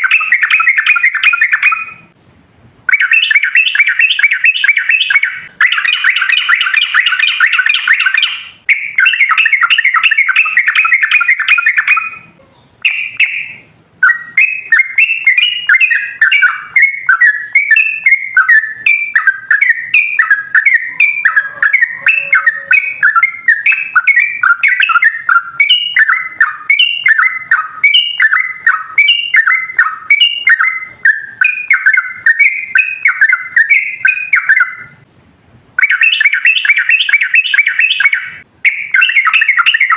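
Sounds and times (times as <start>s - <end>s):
bird song chatter: 0.0s - 2.2s, 2.8s - 35.1s, 35.7s - 39.9s.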